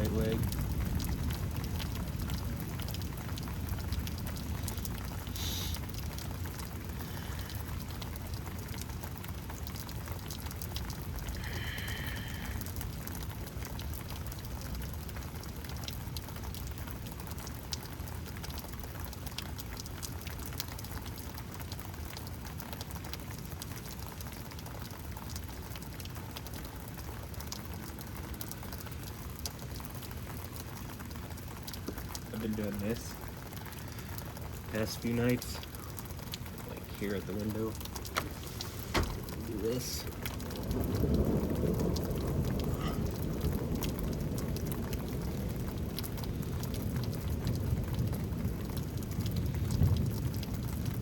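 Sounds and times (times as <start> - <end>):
water drips and taps: 0.0 - 50.6
steady rain falling: 0.0 - 51.0.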